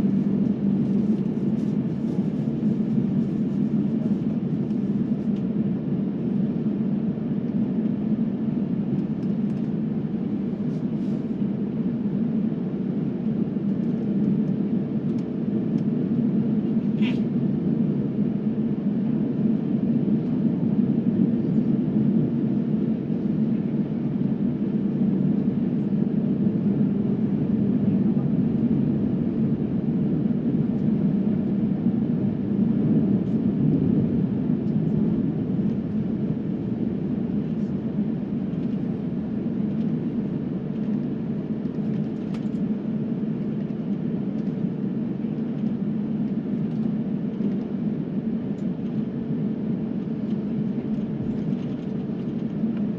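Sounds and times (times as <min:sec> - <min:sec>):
jet airliner cabin noise: 0:00.0 - 0:52.9.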